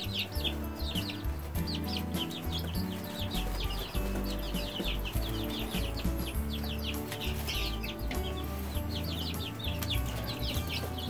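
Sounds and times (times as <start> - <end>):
chicks peeping: 0.0 - 11.0
low background music: 0.0 - 11.0.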